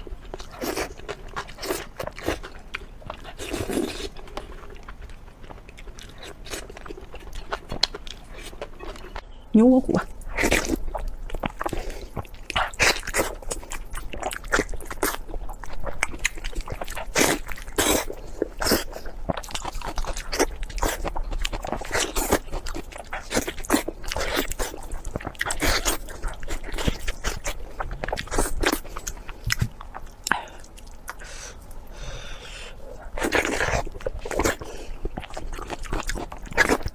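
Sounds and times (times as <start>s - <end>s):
crunchy biting and chewing: 0.0s - 9.2s, 10.0s - 31.3s, 32.9s - 36.9s.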